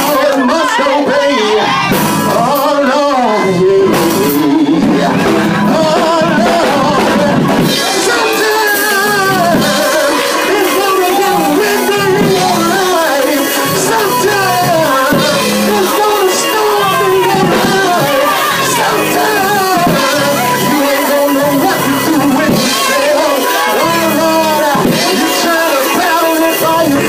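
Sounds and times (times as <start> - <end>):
man singing into microphone: 0.0 - 27.0
music: 0.0 - 27.0.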